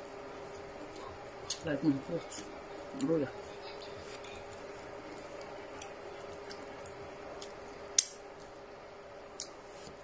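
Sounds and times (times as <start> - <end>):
faint steady hum: 0.0 - 10.0
fingers working soft food: 0.0 - 10.0.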